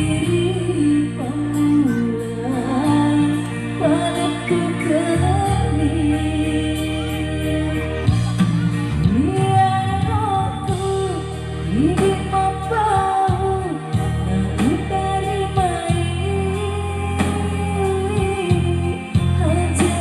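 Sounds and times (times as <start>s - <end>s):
band backing with bass: 0.0s - 20.0s.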